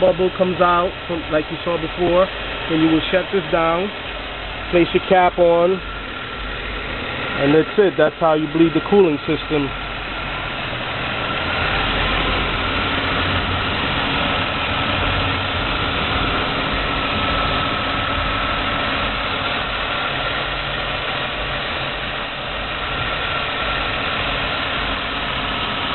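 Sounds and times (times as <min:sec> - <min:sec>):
car engine idling: 0:00.0 - 0:25.9
thin engine whine: 0:00.0 - 0:25.9.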